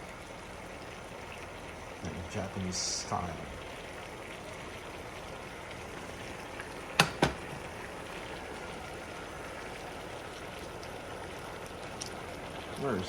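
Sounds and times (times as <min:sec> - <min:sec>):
water bubbling in a pot: 0:00.0 - 0:13.0.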